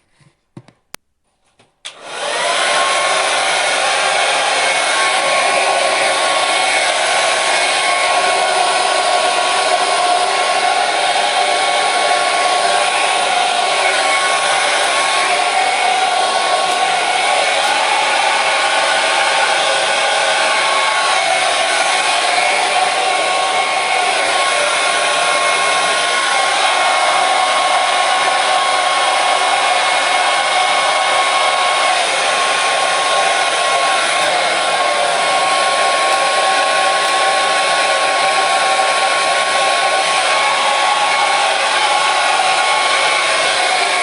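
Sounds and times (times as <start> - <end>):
hair dryer blowing: 1.9 - 44.0.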